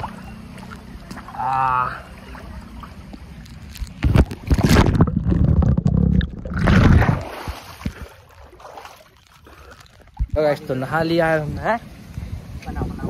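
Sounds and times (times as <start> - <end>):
water splashing over microphone: 0.0 - 11.5.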